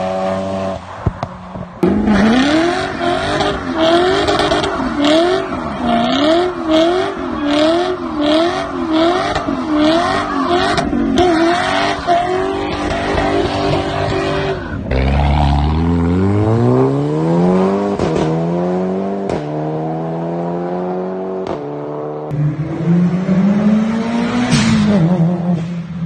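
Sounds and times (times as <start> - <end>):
car engine revving: 1.8 - 26.0.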